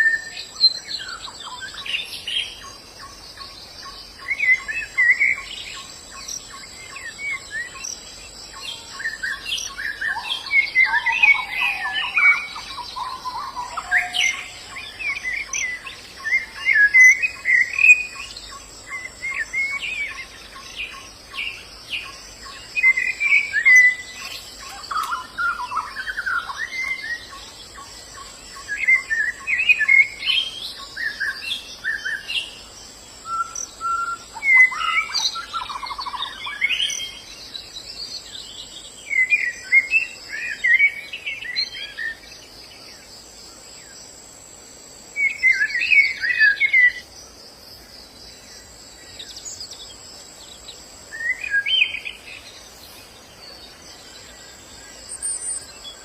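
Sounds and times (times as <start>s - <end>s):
birds chirping and twittering: 0.0s - 56.0s
insects buzzing: 0.0s - 56.0s.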